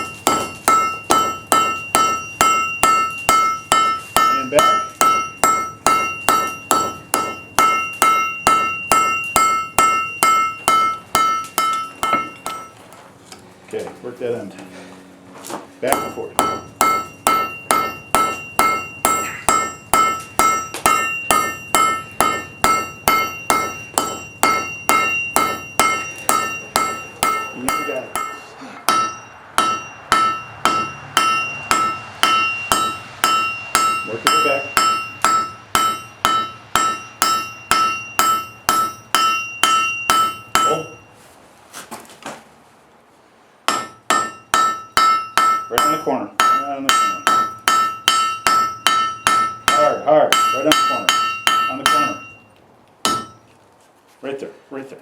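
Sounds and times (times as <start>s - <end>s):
hammer ringing on anvil: 0.0s - 12.8s, 15.8s - 41.1s, 43.7s - 53.5s.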